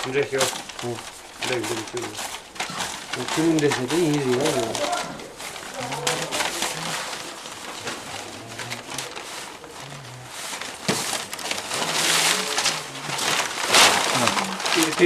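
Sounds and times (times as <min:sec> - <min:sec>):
bundle of sheets swishing: 0:00.0 - 0:15.0
paper pages rustling: 0:00.0 - 0:15.0.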